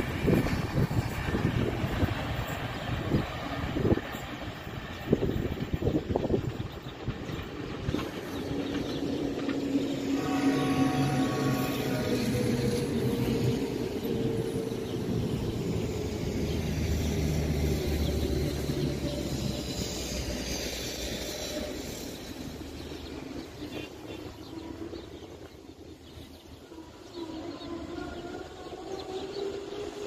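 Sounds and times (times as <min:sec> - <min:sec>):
train rumbling along track: 0:00.0 - 0:30.0.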